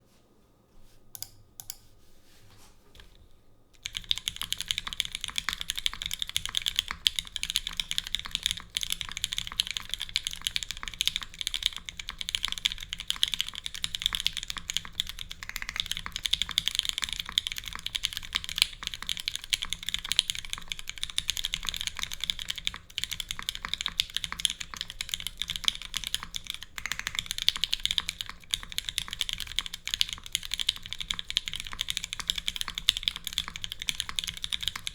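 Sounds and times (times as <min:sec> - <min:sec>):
fast typing on mechanical keyboard: 0:03.8 - 0:34.9.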